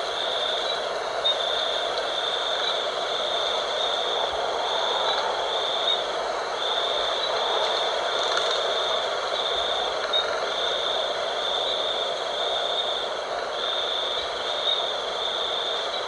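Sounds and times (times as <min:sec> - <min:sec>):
wind blowing steadily: 0:00.0 - 0:16.0.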